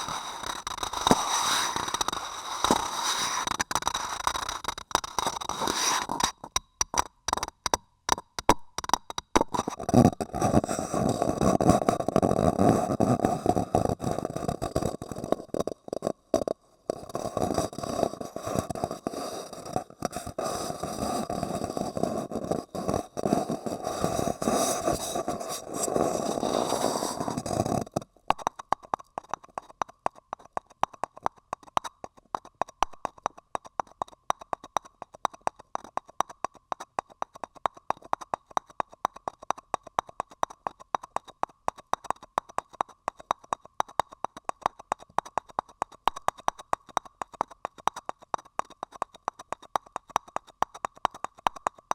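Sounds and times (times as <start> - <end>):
crackly scratching and rubbing: 0.0 - 51.9
rapid tapping: 0.0 - 51.9.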